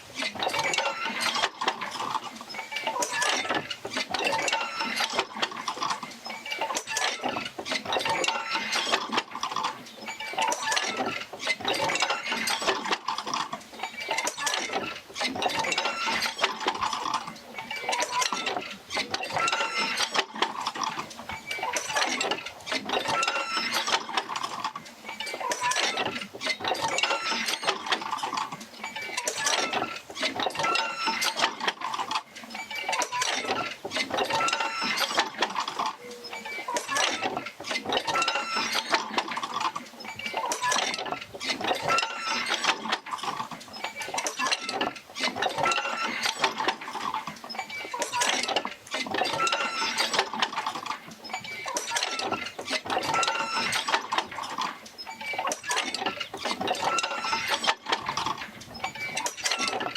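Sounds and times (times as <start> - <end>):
metal clanking and rattling: 0.0 - 59.9
creaking squeaks: 0.1 - 59.9.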